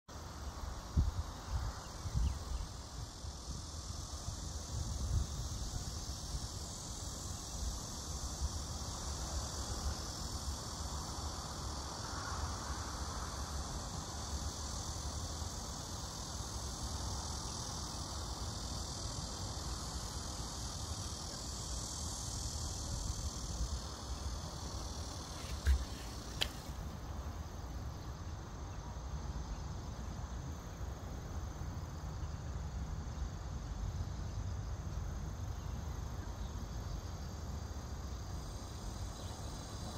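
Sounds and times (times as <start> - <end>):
insects singing: 0.2 - 39.9.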